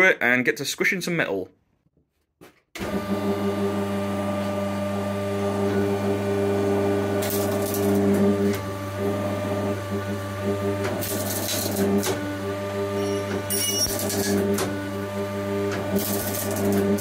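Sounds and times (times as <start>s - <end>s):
hydraulic pump hum and whine: 2.8s - 17.0s.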